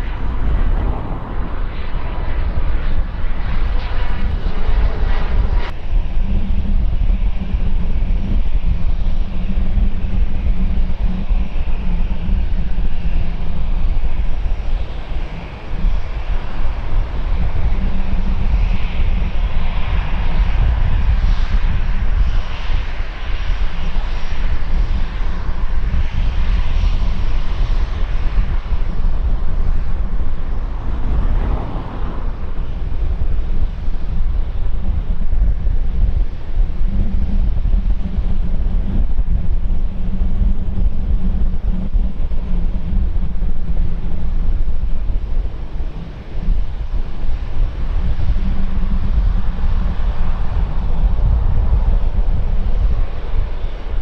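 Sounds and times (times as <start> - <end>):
airliner engines roaring: 0.0 - 54.0.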